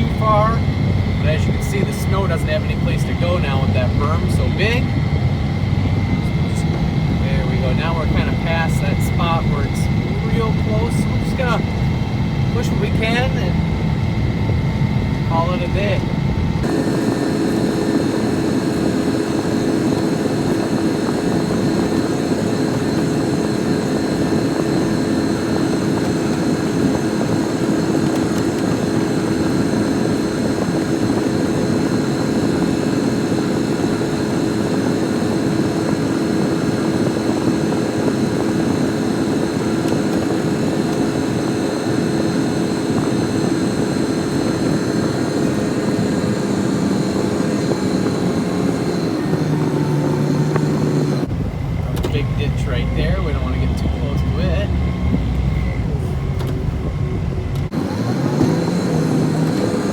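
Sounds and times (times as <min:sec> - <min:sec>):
snow plow engine droning: 0:00.0 - 0:59.9.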